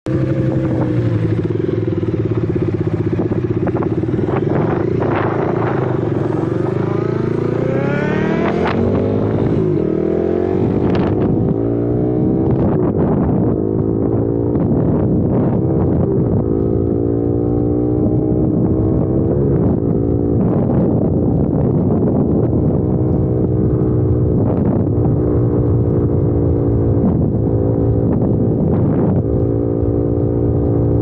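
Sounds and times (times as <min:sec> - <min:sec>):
motorcycle engine running loud: 0:00.1 - 0:31.0.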